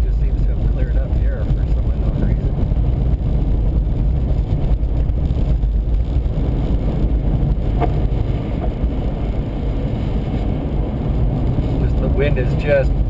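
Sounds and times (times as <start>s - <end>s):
car engine: 0.0s - 13.0s
road noise: 0.0s - 13.0s
wind against car: 0.0s - 13.0s.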